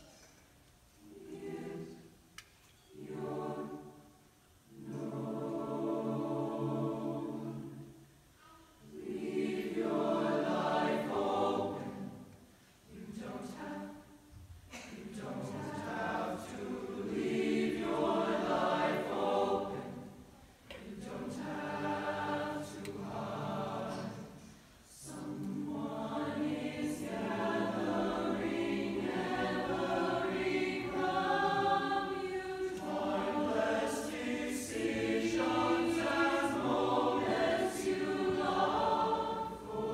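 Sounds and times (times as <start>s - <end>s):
choir singing unaccompanied: 1.0s - 2.3s, 2.9s - 8.1s, 8.7s - 39.9s.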